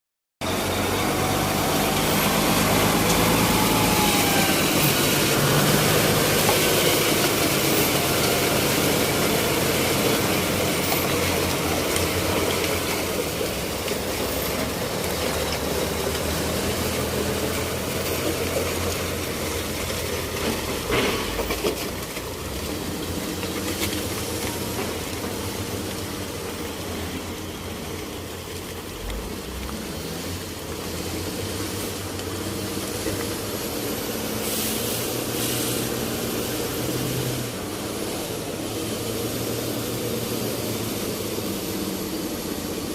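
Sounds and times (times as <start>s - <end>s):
diesel truck engine running: 0.4s - 42.9s.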